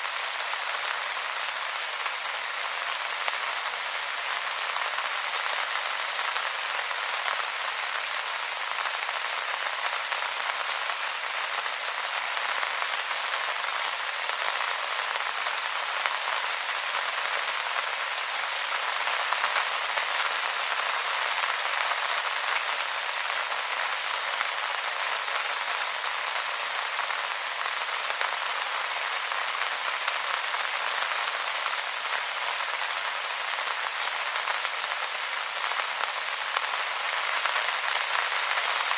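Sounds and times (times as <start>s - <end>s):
rain pattering on leaves: 0.0s - 38.9s.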